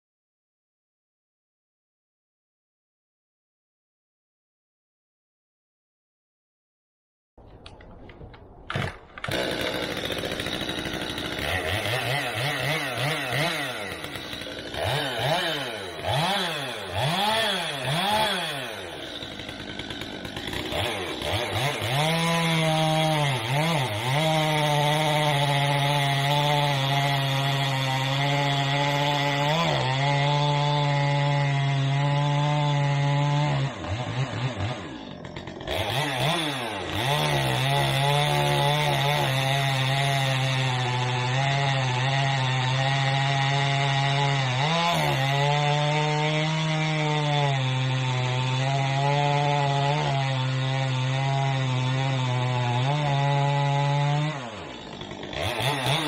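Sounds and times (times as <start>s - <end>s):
chainsaw cutting into log: 8.7s - 56.0s
chainsaw revving: 8.7s - 56.0s.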